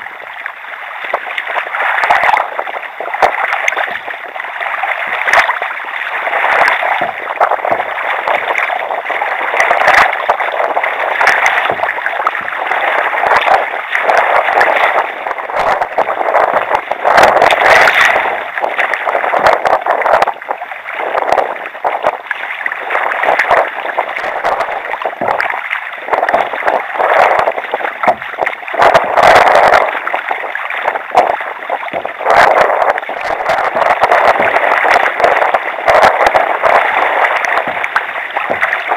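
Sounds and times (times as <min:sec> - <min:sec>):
water splashing against kayak hull: 0:00.0 - 0:38.9.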